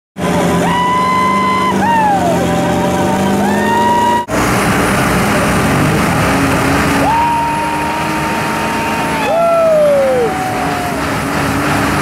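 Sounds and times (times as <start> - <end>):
engine revving hard: 0.2 - 12.0
tires spinning: 0.2 - 12.0.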